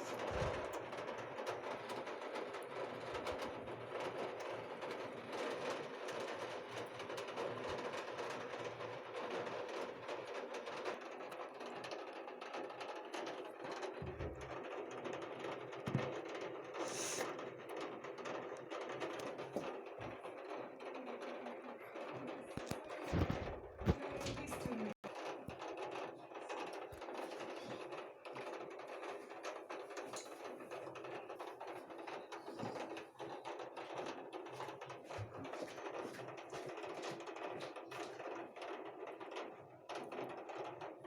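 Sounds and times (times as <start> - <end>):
steady rain pattering: 0.0 - 41.0.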